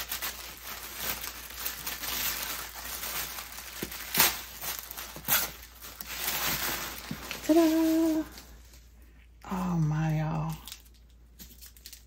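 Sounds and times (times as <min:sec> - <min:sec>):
plastic and tissue paper crinkling: 0:00.0 - 0:12.0.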